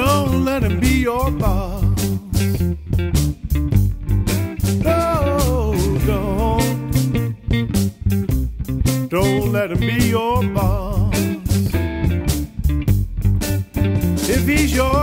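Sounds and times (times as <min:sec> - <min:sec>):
bass: 0:00.0 - 0:15.0
drums: 0:00.0 - 0:15.0
electric guitar bending notes: 0:00.0 - 0:15.0.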